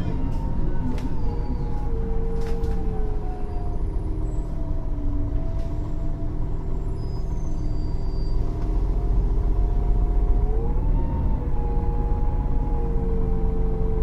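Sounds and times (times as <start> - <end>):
bus engine whine: 0.0 - 14.0
low engine rumble: 0.0 - 14.0.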